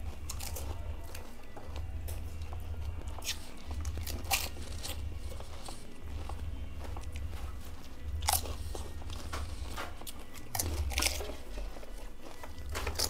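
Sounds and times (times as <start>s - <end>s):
background music: 0.0s - 13.0s
crisp food crunching: 0.0s - 13.0s.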